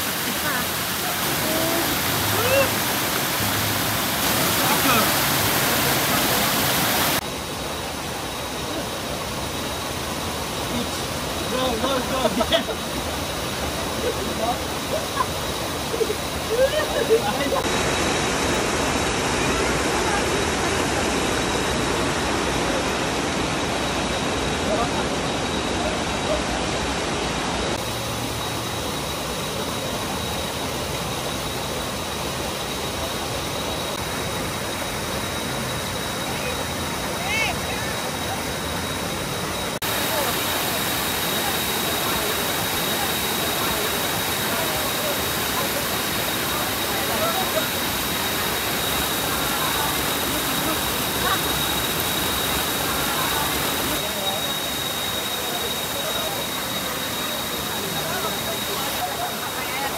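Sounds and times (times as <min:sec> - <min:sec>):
thin steady high tone: 0:00.0 - 0:59.9
waterfall pouring over rocks: 0:00.0 - 0:59.9.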